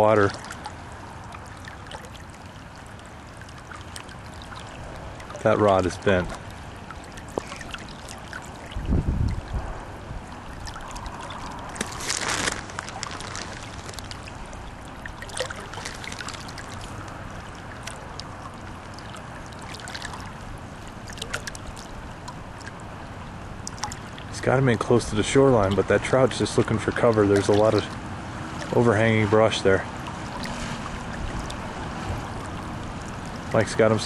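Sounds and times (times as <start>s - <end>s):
river current rushing: 0.0s - 34.0s.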